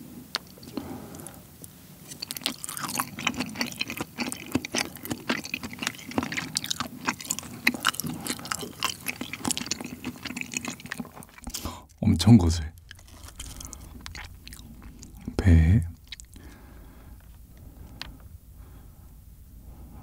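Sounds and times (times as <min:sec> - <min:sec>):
close chewing mouth sounds: 0:00.2 - 0:18.3.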